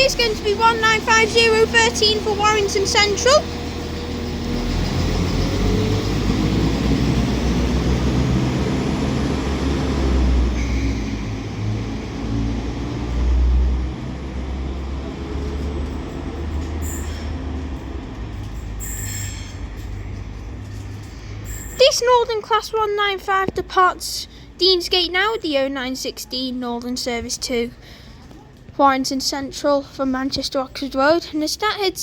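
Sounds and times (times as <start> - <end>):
diesel train engines accelerating: 0.0 - 25.9.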